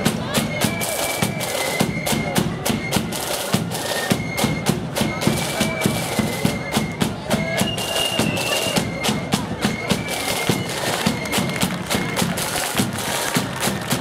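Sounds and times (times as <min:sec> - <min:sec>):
drum beat: 0:00.0 - 0:14.0
shrill flutes playing melody: 0:00.0 - 0:14.0.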